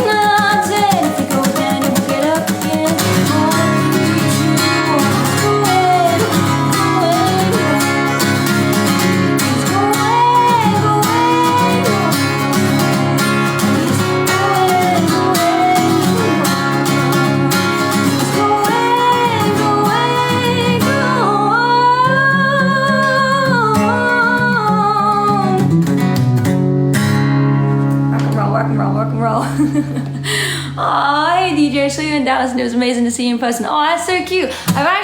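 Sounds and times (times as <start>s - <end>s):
woman singing wordless notes: 0.0s - 25.8s, 30.6s - 35.0s
acoustic guitar strumming: 0.0s - 35.0s.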